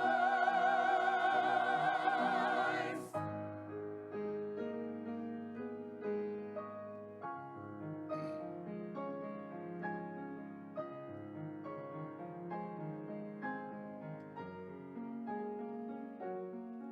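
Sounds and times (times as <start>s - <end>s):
slow piano music: 0.0s - 16.9s.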